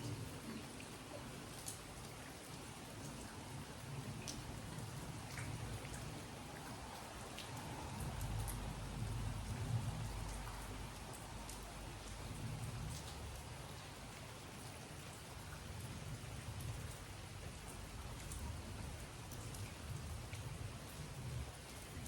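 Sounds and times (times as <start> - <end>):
raindrops ticking on surfaces: 0.0 - 22.0
steady rainfall: 0.0 - 22.0.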